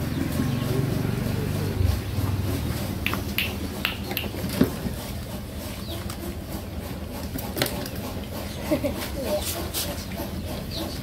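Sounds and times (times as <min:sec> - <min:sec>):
puppies chewing and lapping: 0:01.2 - 0:11.0.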